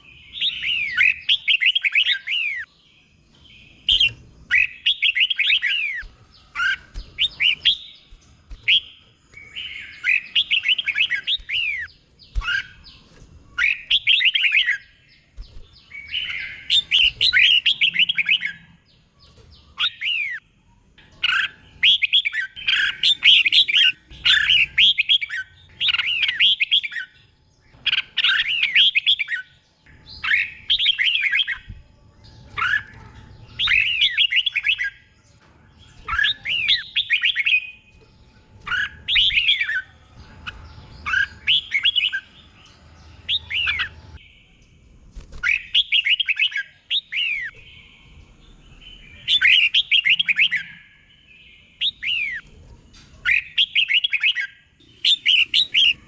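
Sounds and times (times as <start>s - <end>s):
bird whistled song: 0.0s - 52.5s, 53.2s - 56.0s.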